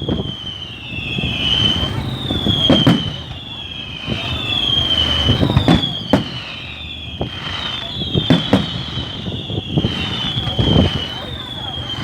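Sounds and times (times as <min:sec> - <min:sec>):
falling whistling tone: 0:00.0 - 0:12.0
fireworks bangs and cracks: 0:00.0 - 0:12.0.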